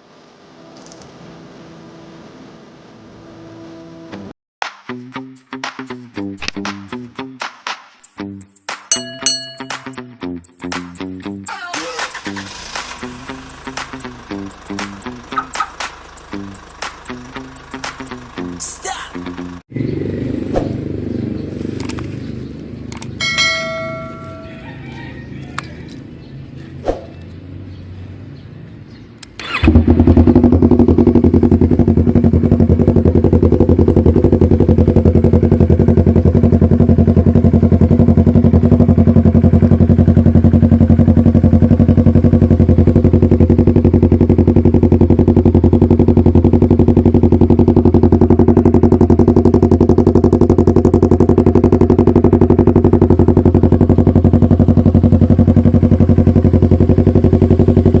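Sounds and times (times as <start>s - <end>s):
motorcycle engine starting and idling: 10.6s - 58.0s.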